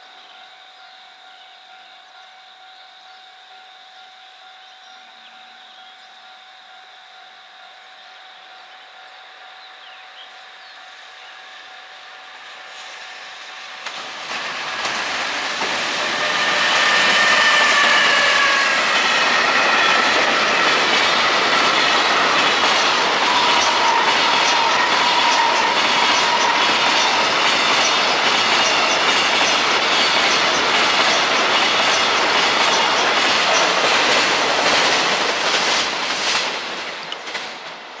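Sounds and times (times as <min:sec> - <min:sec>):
freight train passing: 0:06.2 - 0:38.0.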